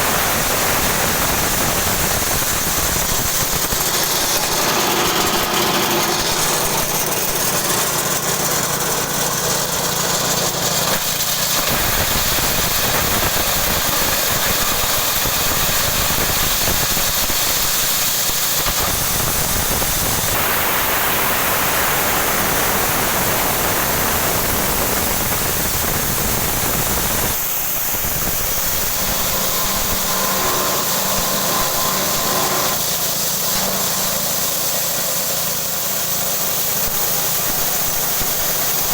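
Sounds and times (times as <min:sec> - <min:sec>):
forage chopper running: 0:00.0 - 0:38.9.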